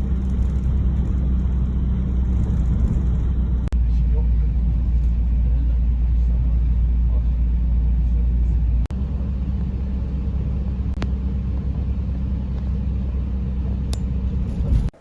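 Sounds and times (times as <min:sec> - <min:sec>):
vehicle rumbling in motion: 0:00.0 - 0:15.0.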